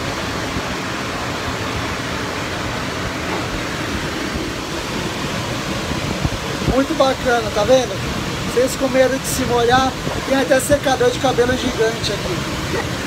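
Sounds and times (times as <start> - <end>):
dryer blowers rushing air: 0.0 - 13.0.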